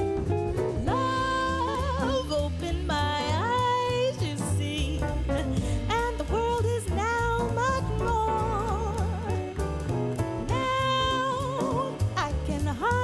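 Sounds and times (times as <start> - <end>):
song with guitar accompaniment: 0.0 - 13.0.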